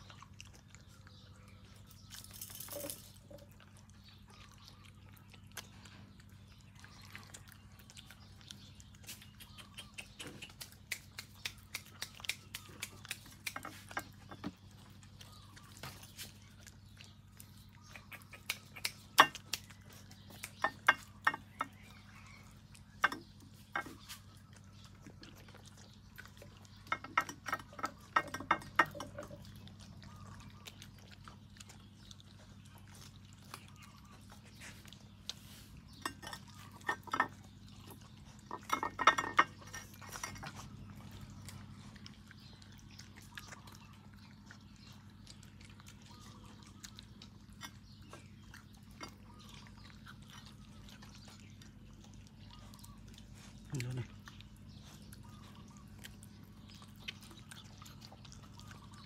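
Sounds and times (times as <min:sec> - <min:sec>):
dog eating from a bowl: 0:00.0 - 0:59.0.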